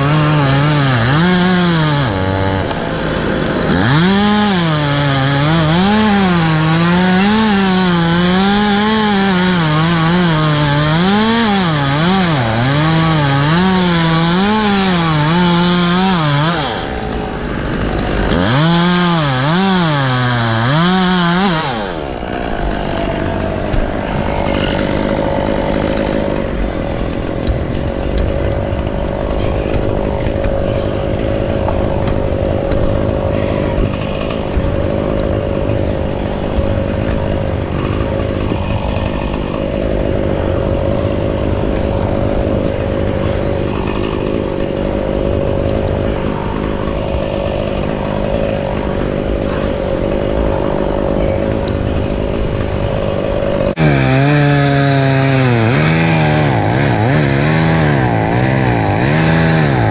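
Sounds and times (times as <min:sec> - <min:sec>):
engine revving up and down: 0:00.0 - 0:26.7, 0:28.2 - 0:59.9
chainsaw running: 0:00.0 - 0:59.9.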